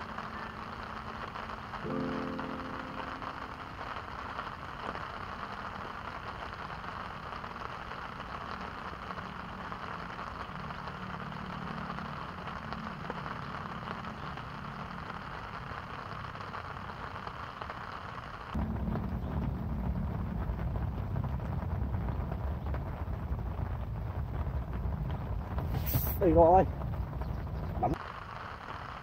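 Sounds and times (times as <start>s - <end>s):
rain falling on pond: 0.0s - 29.0s.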